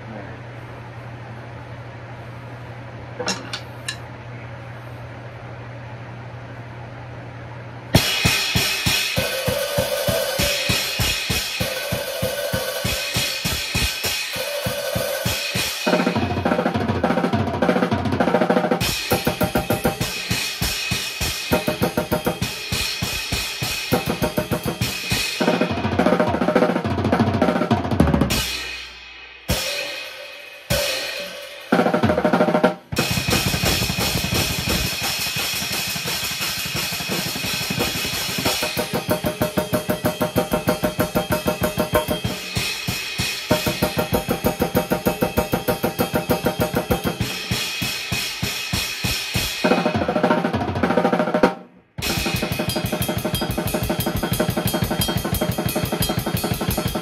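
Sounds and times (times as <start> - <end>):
drum kit played fast: 8.0 - 57.0.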